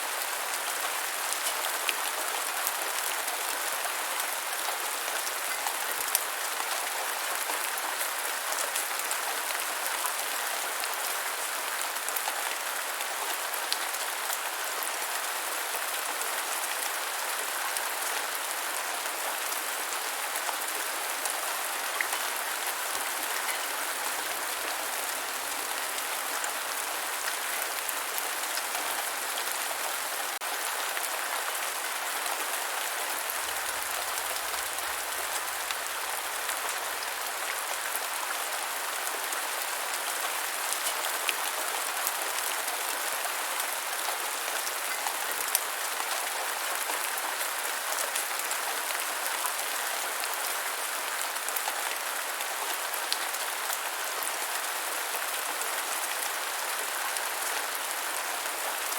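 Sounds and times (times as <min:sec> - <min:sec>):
steady rain on ground: 0:00.0 - 0:58.9.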